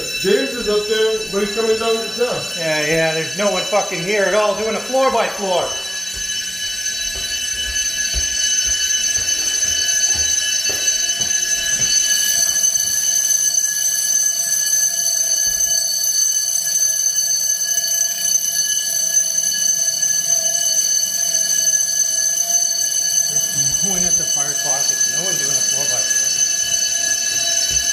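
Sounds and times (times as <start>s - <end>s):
fire alarm bells ringing: 0.0s - 27.9s.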